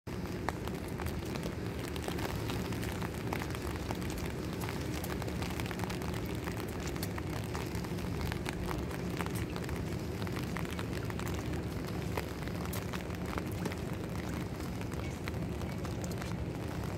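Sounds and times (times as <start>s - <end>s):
low rumble: 0.1s - 16.9s
raindrops ticking close by: 0.1s - 16.9s
steady rain: 0.1s - 16.9s.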